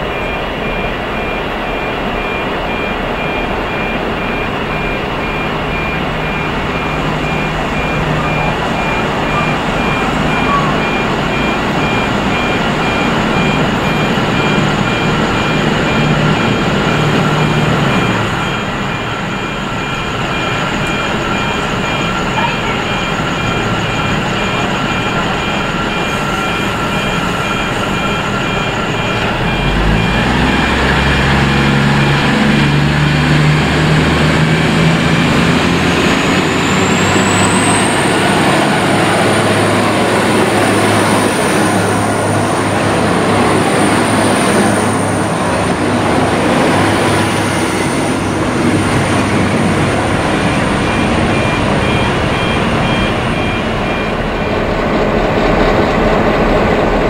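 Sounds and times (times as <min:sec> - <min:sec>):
diesel train engine: 0:00.0 - 0:57.0
high whine: 0:00.0 - 0:57.0.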